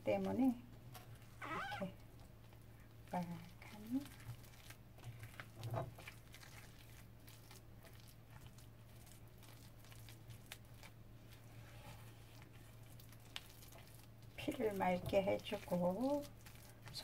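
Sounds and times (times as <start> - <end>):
utensil stirring thick batter: 0.2 - 17.0.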